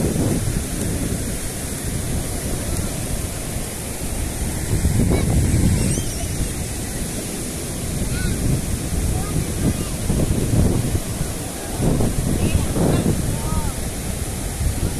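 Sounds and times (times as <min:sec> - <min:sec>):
ocean surf washing on beach: 0:00.0 - 0:14.9.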